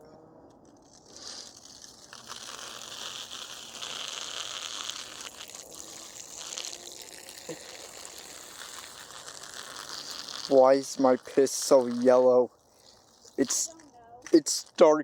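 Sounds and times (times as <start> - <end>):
urine stream splashing: 0.9 - 15.0.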